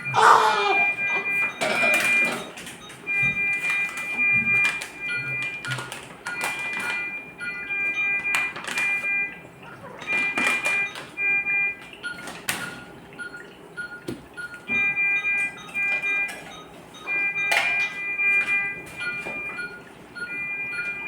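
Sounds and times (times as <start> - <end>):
electronic beeping: 0.0 - 9.4, 10.0 - 12.3, 13.2 - 21.0.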